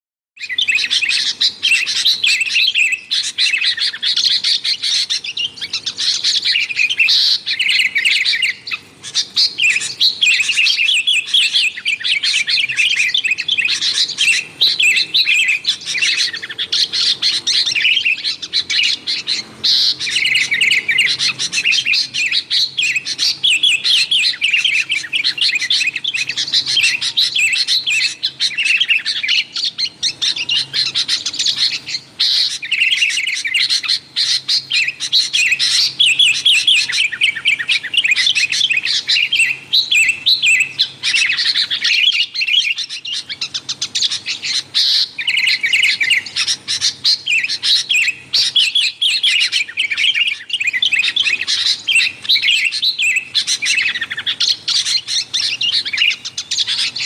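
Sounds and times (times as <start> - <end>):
bulbuls chattering: 0.4 - 57.0.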